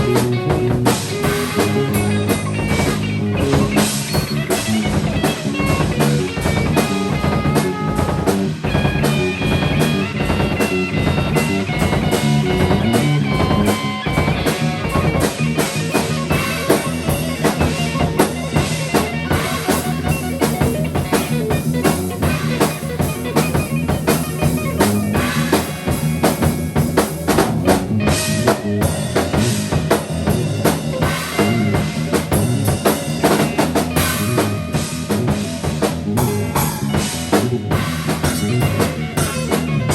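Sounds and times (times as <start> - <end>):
drum kit playing busy beat: 0.0 - 39.9
held bass notes: 0.0 - 39.9.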